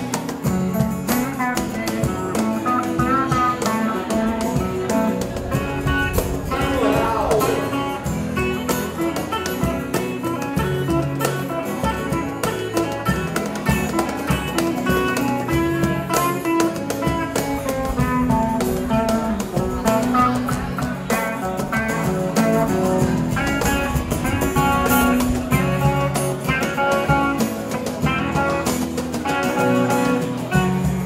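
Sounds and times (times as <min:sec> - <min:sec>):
electric guitar lead notes: 0:00.0 - 0:31.0
strummed acoustic guitar: 0:00.0 - 0:31.0.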